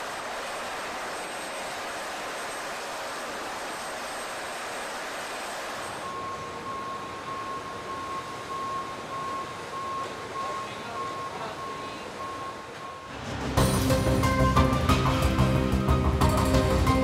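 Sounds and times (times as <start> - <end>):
machinery noise with high whine: 0.0 - 17.0.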